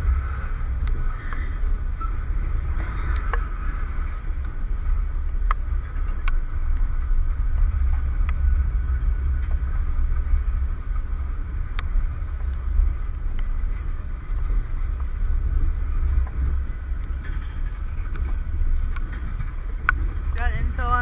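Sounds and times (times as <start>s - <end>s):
freight train rolling past: 0.0s - 21.0s
wheels and couplers clicking: 0.0s - 21.0s.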